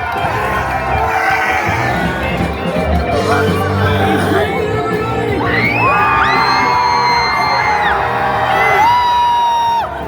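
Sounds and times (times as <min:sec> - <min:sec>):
crowd shouting and cheering: 0:00.0 - 0:10.0
live band music: 0:00.0 - 0:10.0.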